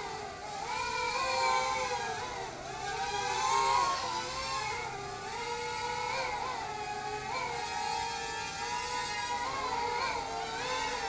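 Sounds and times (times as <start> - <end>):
quadcopter propellers whining: 0.0 - 11.0.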